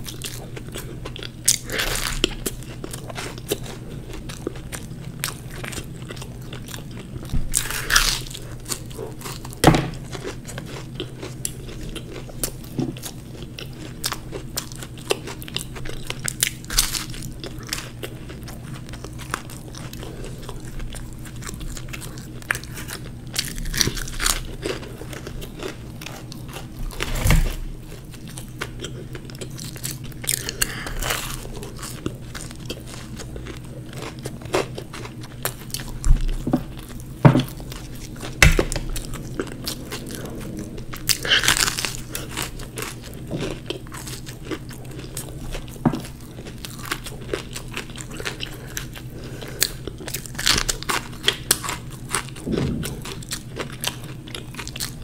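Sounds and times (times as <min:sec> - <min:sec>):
crunching and chewing pastry: 0:00.0 - 0:55.0.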